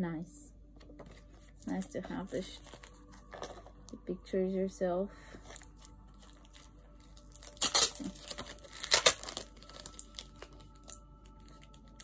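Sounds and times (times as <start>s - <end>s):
plastic packaging crinkling: 1.0s - 4.0s, 5.3s - 12.0s.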